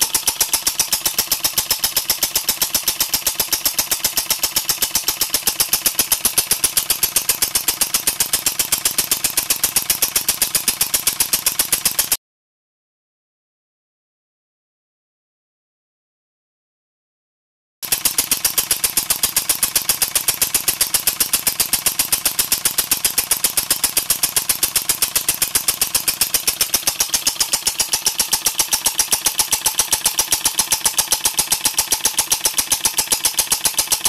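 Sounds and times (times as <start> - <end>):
generator engine running: 0.0 - 12.2, 17.8 - 34.0.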